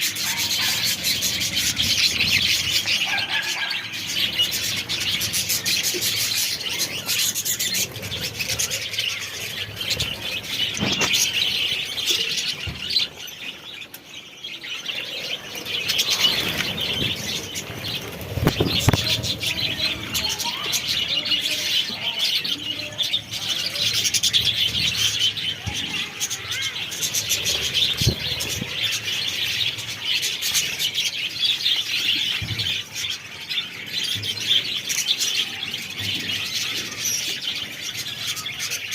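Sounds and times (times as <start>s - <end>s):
budgerigars chattering and chirping: 0.0s - 14.0s, 14.6s - 38.9s.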